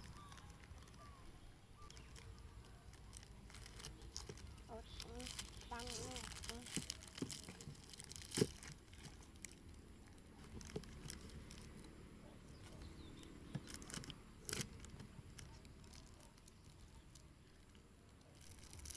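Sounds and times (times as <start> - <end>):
plastic wrapping crinkling: 0.0 - 1.2, 1.8 - 11.9, 13.5 - 18.9.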